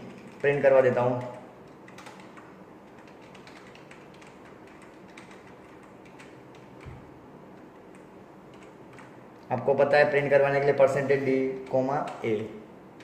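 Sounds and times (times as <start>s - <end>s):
keyboard typing: 0.0s - 9.5s, 11.4s - 13.0s.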